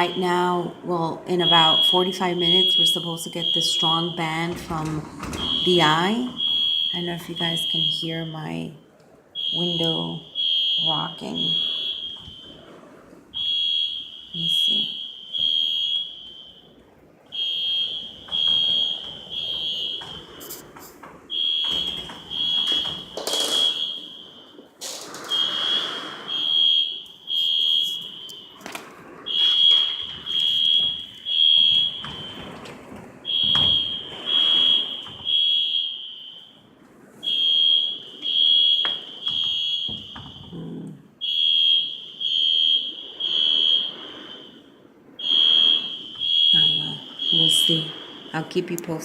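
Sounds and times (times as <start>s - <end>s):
fire alarm high beeps: 0.0s - 49.0s.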